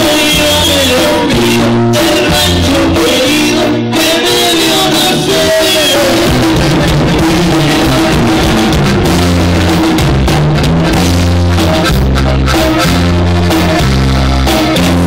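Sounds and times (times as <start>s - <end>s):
band playing: 0.0s - 15.0s
bass notes: 0.0s - 15.0s
drum kit: 0.0s - 15.0s.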